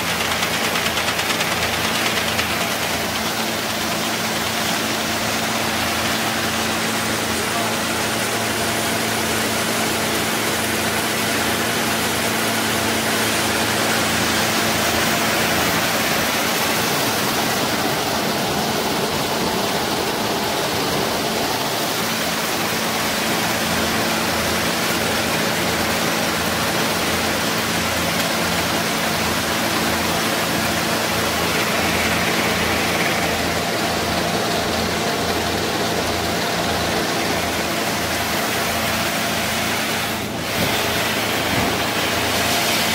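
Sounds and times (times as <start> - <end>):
machine hum: 0.0 - 42.9
peanuts rushing through sheller: 0.0 - 42.9.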